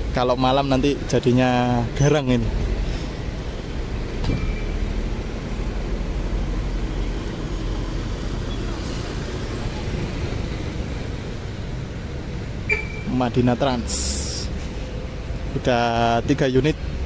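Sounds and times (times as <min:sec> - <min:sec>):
vehicle engines idling: 0:00.0 - 0:17.0.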